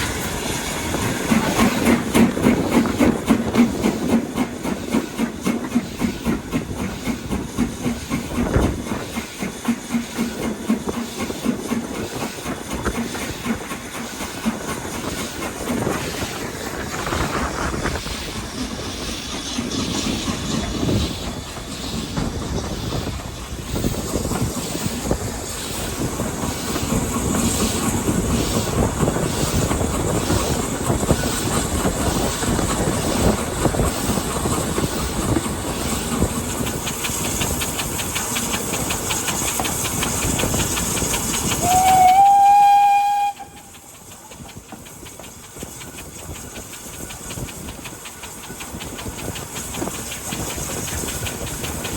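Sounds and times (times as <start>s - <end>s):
steam hiss: 0.0s - 51.9s
steam locomotive exhaust beats: 0.0s - 51.9s
train wheels clattering on rails: 0.0s - 51.9s.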